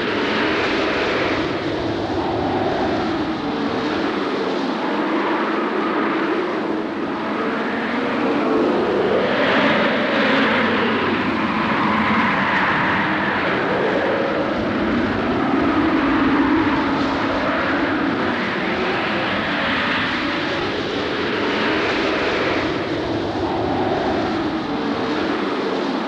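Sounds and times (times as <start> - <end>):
wind howling and whistling: 0.0 - 26.0.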